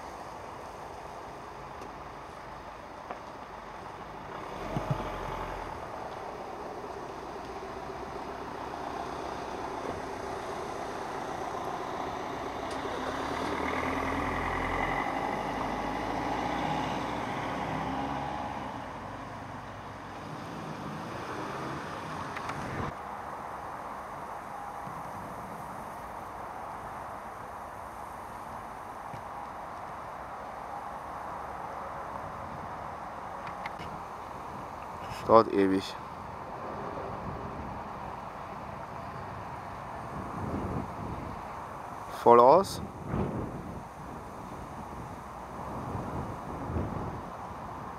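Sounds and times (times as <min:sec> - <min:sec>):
vehicle passing at a distance: 0:00.0 - 0:47.9.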